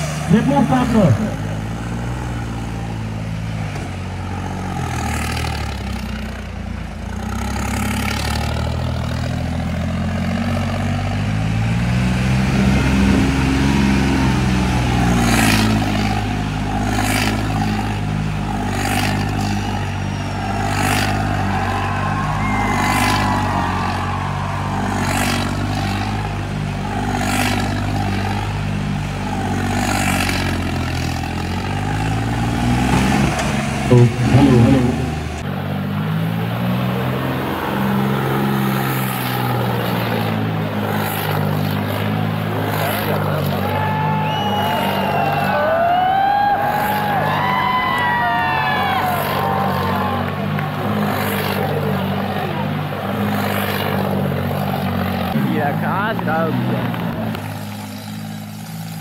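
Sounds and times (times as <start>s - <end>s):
diesel tractor engine revving: 0.0s - 59.0s.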